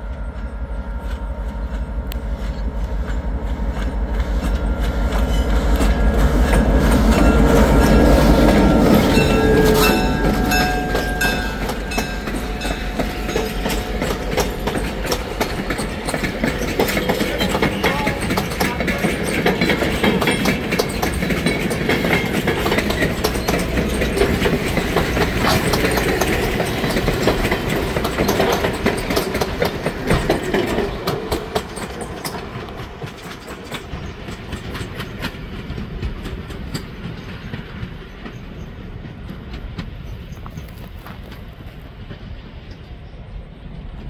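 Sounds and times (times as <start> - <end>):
train wheels clacking over rail joints: 0.1 - 43.0.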